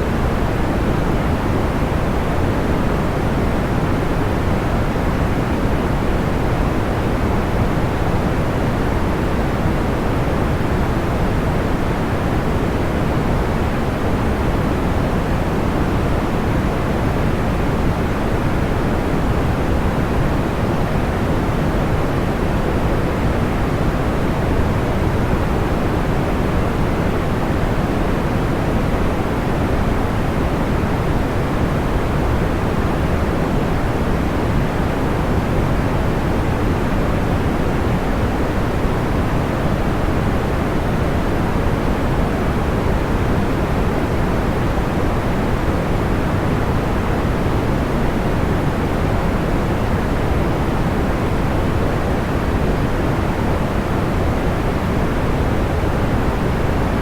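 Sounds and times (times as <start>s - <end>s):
muffled white noise hiss: 0.0s - 57.0s.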